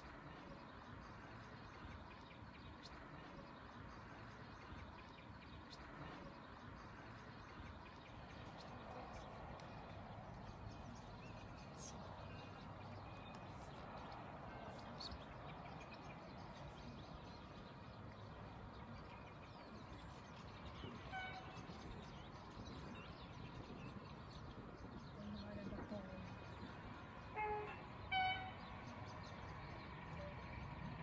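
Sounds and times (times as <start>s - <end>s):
distant traffic rumble: 0.0s - 31.0s.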